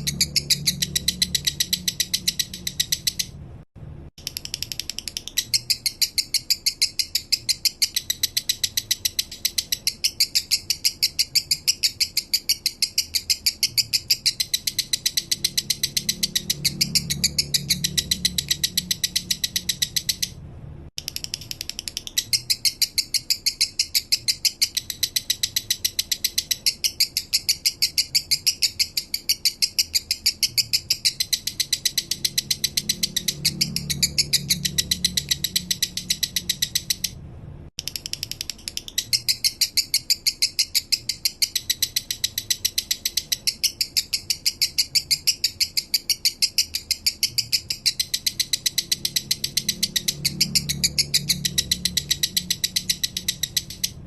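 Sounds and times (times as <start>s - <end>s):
bird chirping high and fast: 0.0s - 3.5s, 4.2s - 20.4s, 21.0s - 37.2s, 37.8s - 54.0s.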